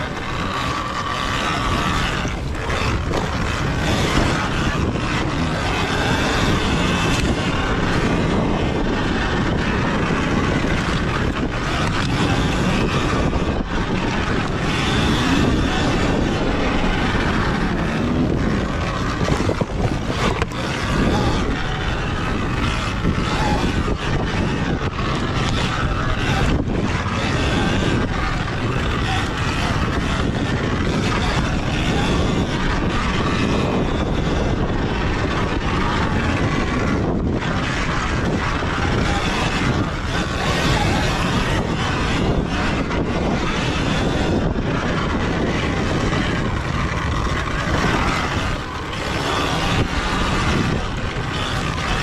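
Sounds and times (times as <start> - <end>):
drivetrain and tyre noise: 0.0 - 52.0
wind rush on microphone: 0.0 - 52.0.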